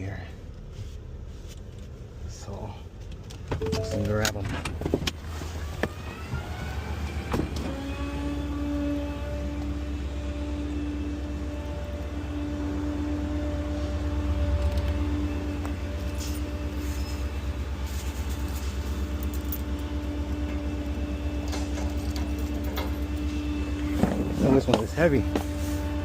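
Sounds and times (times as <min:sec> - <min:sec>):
garbage truck engine running: 0:03.6 - 0:26.0.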